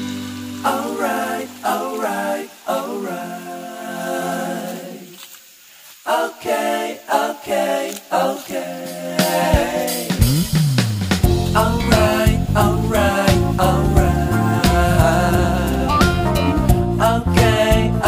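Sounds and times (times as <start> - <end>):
voices singing: 0.6 - 10.4, 11.3 - 18.0.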